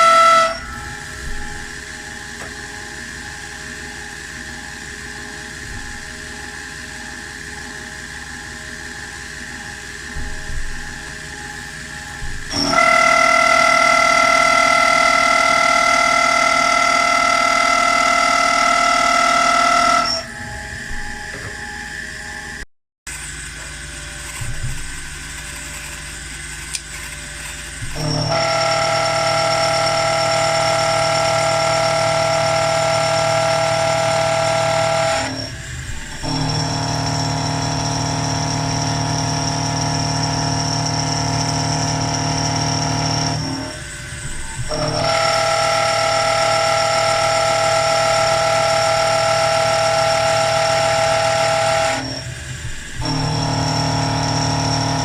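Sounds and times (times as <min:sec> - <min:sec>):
milling machine whining: 0:00.0 - 0:55.0.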